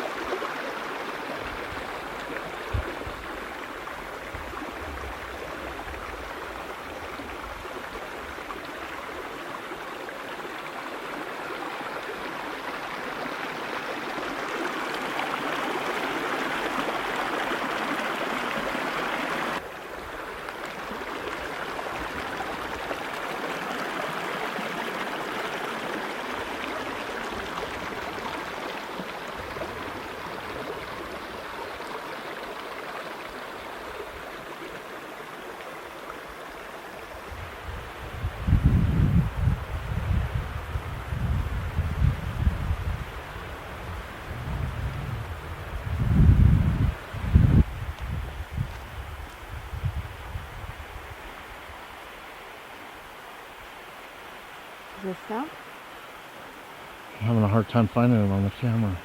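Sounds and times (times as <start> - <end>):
creek water running over rocks: 0.0 - 59.0.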